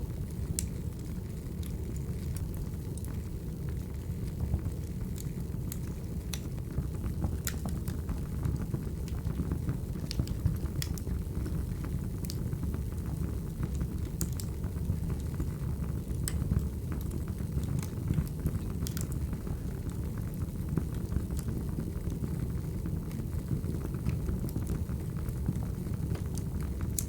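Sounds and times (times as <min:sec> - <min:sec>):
fire crackles and pops: 0:00.0 - 0:27.0
firewood burning rumble: 0:00.0 - 0:27.0.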